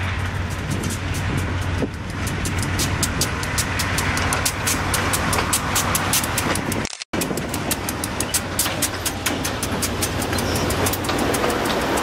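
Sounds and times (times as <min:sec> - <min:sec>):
locomotive engine hum: 0:00.0 - 0:12.0
wheels clicking on rails: 0:00.0 - 0:12.0.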